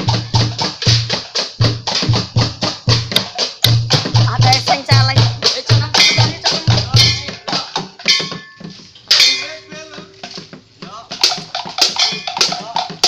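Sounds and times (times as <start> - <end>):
sharp percussion hits: 0.0 - 13.0.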